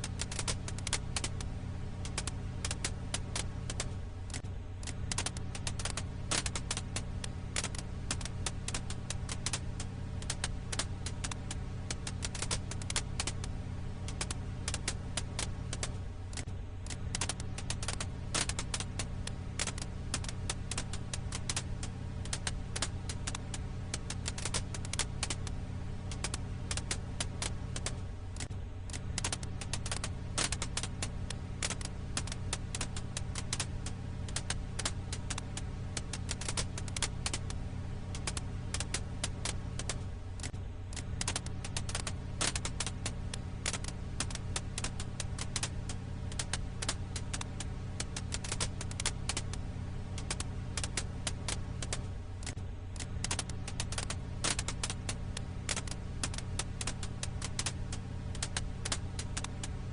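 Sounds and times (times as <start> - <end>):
firewood crackling: 0.0 - 59.9
low hum: 0.0 - 59.9.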